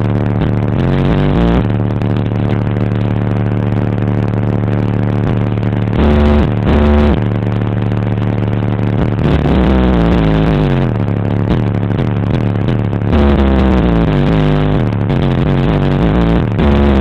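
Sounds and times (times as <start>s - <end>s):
bass-heavy music through car speakers: 0.0s - 17.0s.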